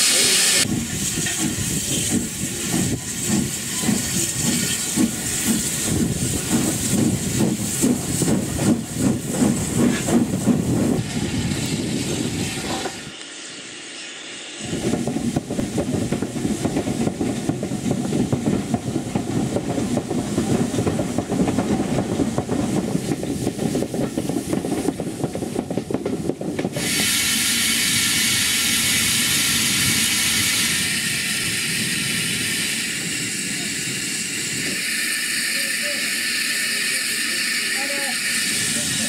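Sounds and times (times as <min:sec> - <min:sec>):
steam hissing from safety valves: 0:00.0 - 0:25.6, 0:26.2 - 0:39.0
steam locomotive running: 0:00.0 - 0:39.0.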